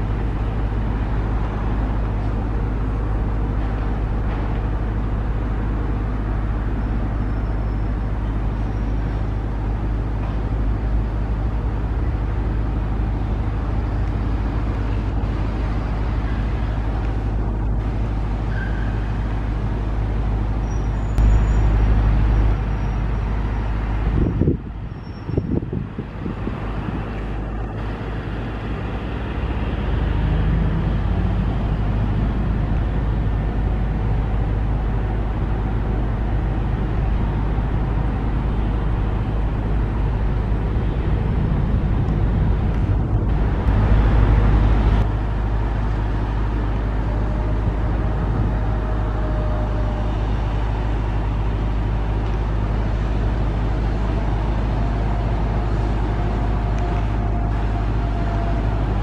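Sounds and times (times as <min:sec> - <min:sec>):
airliner jet engines rumbling: 0:00.0 - 0:59.0.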